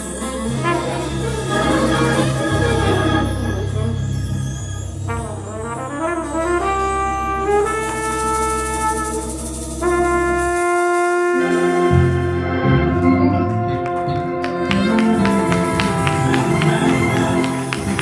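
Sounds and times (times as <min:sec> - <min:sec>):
bass line: 0:00.0 - 0:18.0
horns: 0:00.0 - 0:18.0
organ chords: 0:00.0 - 0:18.0.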